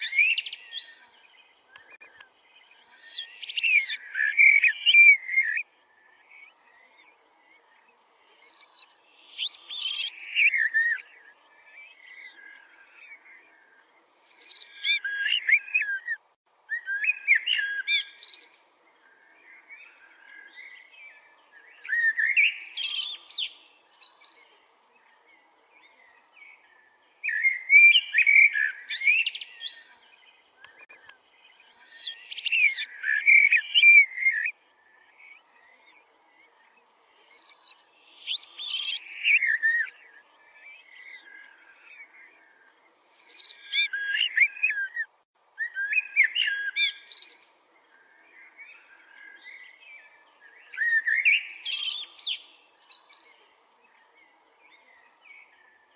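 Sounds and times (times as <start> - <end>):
bird singing: 0.0 - 55.9
faint bird chirps: 0.0 - 55.9.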